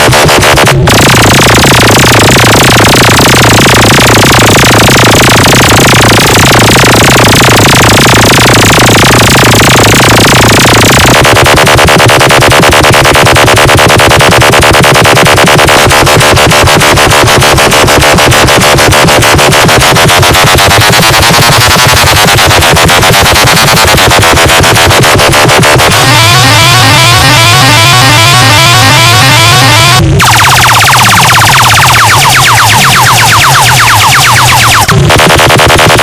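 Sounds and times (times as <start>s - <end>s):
electronic dance music: 0.0s - 36.0s.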